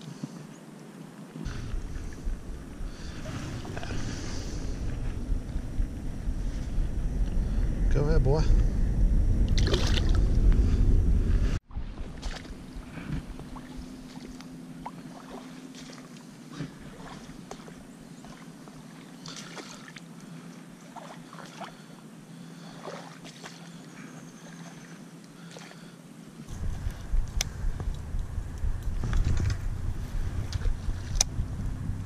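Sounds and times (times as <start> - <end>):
faint low hum: 1.4 - 32.0.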